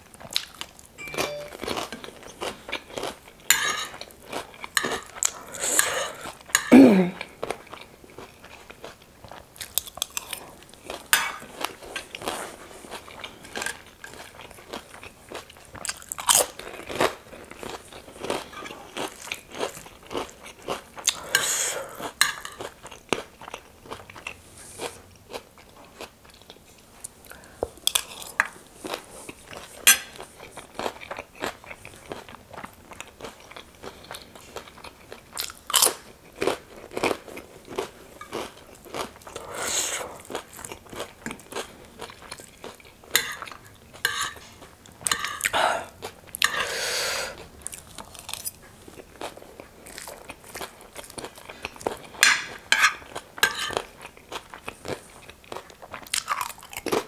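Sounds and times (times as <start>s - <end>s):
crunching and chewing crisp snacks: 0.0s - 1.0s, 1.6s - 46.5s, 47.3s - 57.0s.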